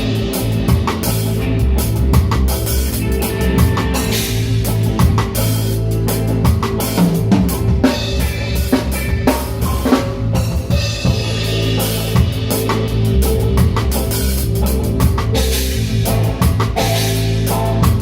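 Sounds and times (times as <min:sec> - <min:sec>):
reggae band playing: 0:00.0 - 0:18.0.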